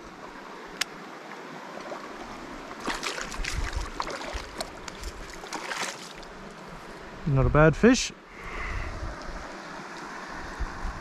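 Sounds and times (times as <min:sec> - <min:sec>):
creek flowing: 0:00.0 - 0:07.4, 0:08.1 - 0:11.0.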